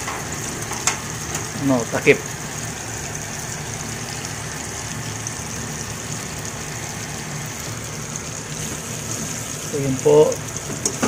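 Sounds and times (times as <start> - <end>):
pork sizzling in a pan: 0.0 - 11.0.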